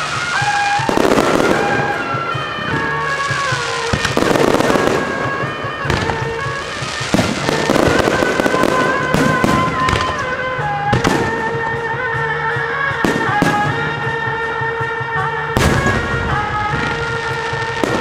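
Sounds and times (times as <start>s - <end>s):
firework crackling: 0.0s - 12.3s, 15.5s - 18.0s.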